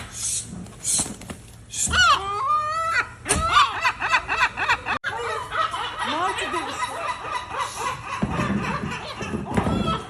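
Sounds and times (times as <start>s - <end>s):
seagulls calling: 0.2s - 10.0s.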